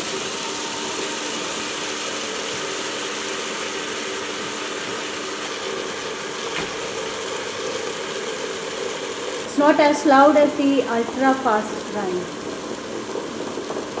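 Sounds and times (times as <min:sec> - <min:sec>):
wet grinder motor hum: 0:00.0 - 0:14.0.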